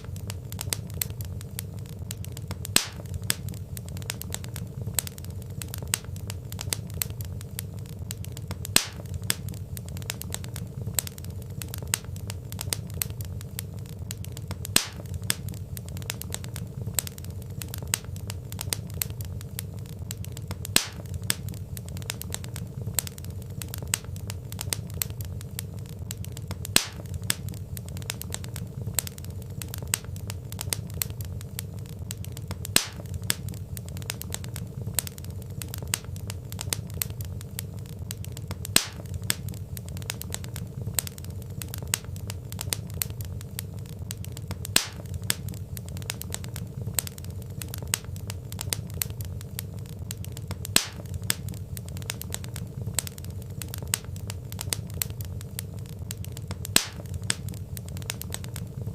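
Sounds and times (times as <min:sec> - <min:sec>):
logs popping: 0:00.0 - 0:58.9
wood fire crackling: 0:00.0 - 0:58.9.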